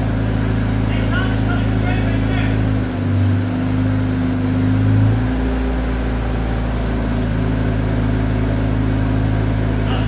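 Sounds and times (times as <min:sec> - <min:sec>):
forklift engine running: 0:00.0 - 0:10.0.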